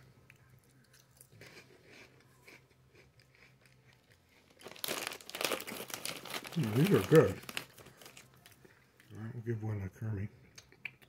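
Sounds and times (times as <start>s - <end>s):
crunchy snack being chewed: 0.2s - 9.1s.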